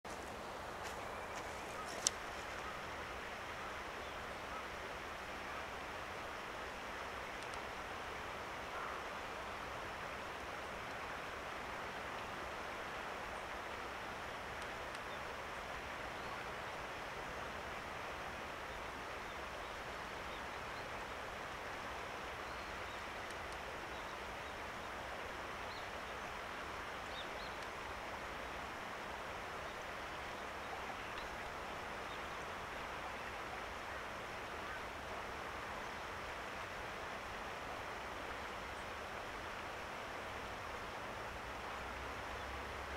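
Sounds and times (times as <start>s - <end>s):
outdoor background hiss: 0.0s - 42.9s.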